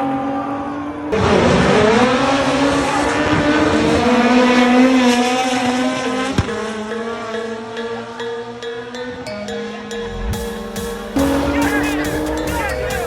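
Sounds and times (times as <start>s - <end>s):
race car engines at high revs: 0.0s - 13.0s.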